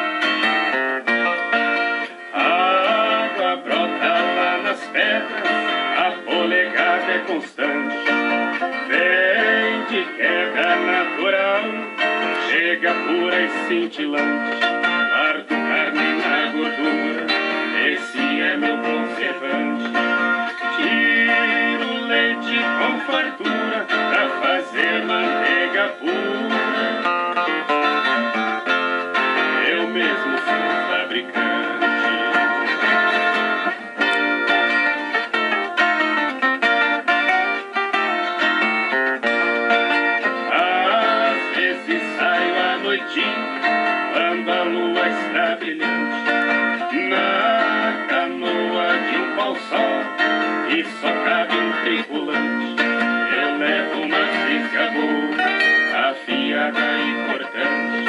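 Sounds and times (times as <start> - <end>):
nylon-string acoustic guitar: 0.0 - 58.0
viola caipira playing: 0.0 - 58.0.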